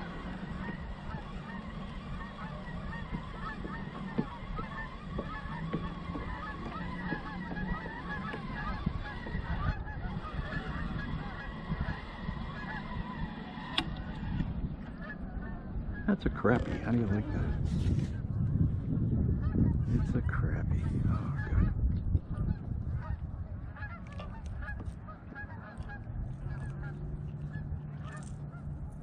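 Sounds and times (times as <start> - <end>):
geese honking: 0.0 - 29.0
low steady hum: 0.0 - 29.0.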